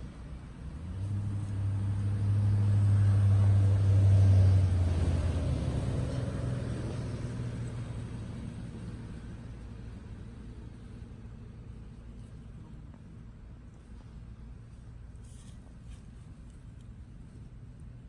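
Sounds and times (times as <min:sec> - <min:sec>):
motor vehicle passing by: 0:00.0 - 0:18.0.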